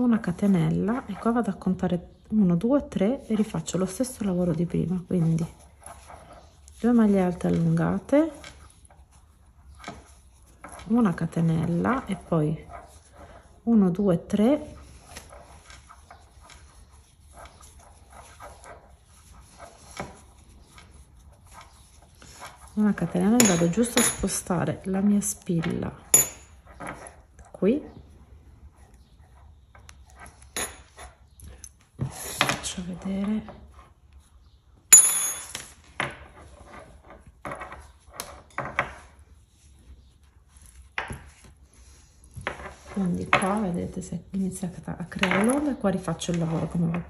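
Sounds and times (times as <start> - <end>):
yarn rustling with crochet hook: 0.0 - 34.6, 35.6 - 47.0.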